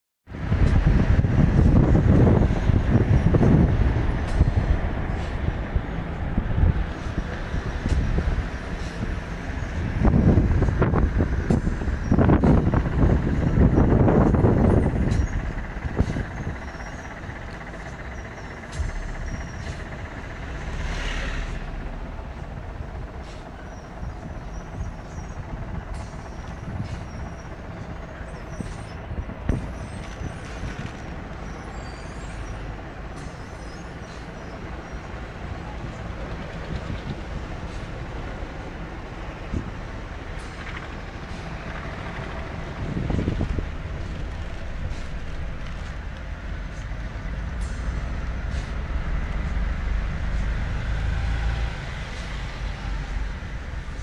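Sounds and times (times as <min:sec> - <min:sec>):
bus passing: 0:00.3 - 0:54.0
vehicle driving on wet road: 0:00.3 - 0:54.0.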